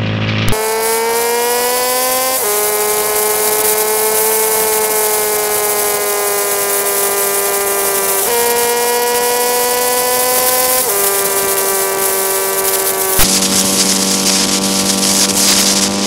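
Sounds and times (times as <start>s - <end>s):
motorcycle engine whining: 0.0s - 16.0s
wind and rain on microphone: 2.4s - 16.0s.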